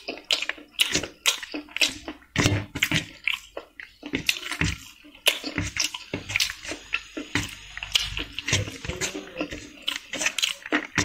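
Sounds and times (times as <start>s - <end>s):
wet eating squishes: 0.0s - 11.0s.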